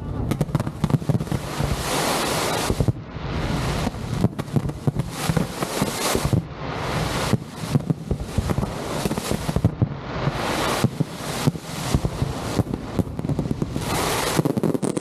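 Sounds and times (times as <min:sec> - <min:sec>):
fireworks bangs and crackles: 0:00.0 - 0:15.0
steady rushing noise: 0:00.0 - 0:15.0.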